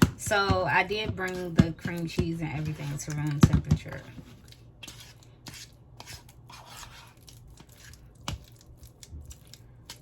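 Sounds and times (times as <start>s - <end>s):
utensil scraping in mixing bowl: 0.2s - 9.0s.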